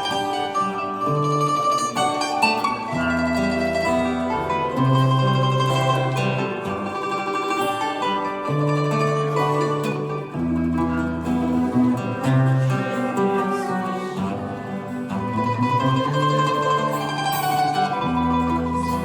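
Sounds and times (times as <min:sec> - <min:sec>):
plucked string ensemble: 0:00.0 - 0:19.0.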